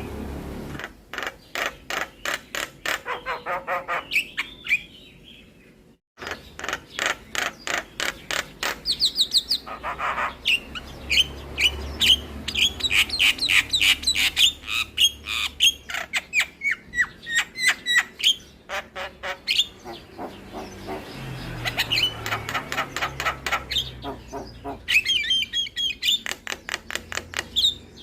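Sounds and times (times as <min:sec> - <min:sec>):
bird singing varied song: 0:01.2 - 0:28.0.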